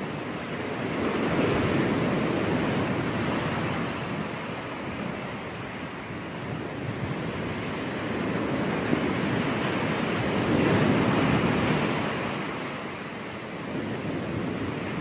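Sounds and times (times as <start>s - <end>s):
ocean waves breaking on a beach: 0.0s - 15.0s.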